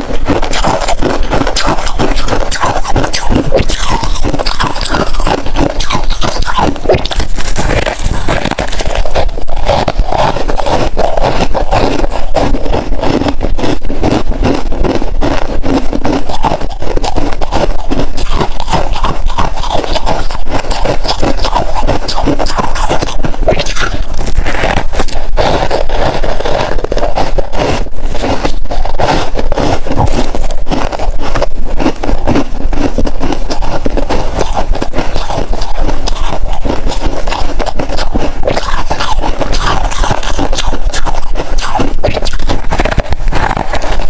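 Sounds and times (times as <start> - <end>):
crunching and chewing ice: 0.0 - 44.0.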